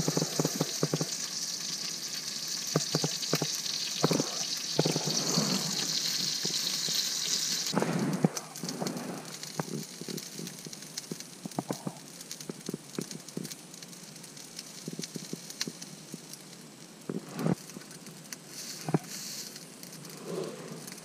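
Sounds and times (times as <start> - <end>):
gas burner hiss: 0.0 - 12.0, 14.6 - 21.0
rice crackling in a pan: 0.0 - 21.0.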